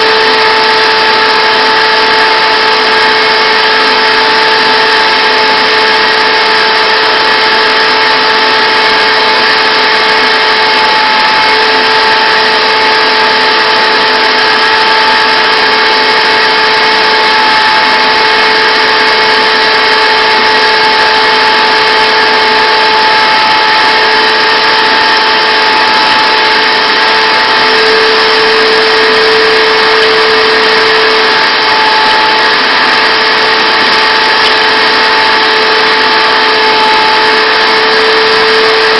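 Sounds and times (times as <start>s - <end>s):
shop vac running: 0.0s - 38.9s.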